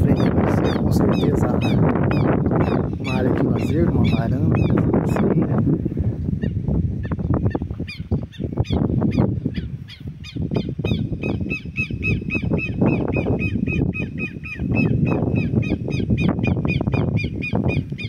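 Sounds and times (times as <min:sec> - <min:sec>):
bird chirping rapidly: 0:00.0 - 0:05.4, 0:06.4 - 0:18.0.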